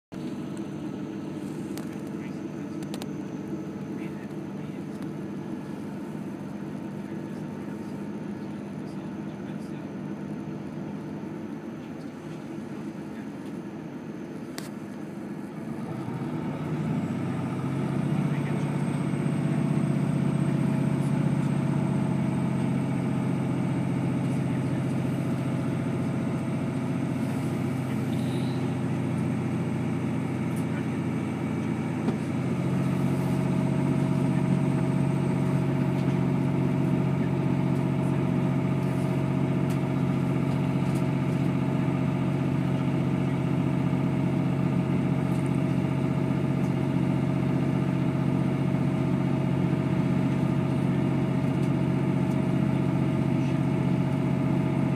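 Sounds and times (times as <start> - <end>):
train diesel engine droning: 0.2 - 54.9.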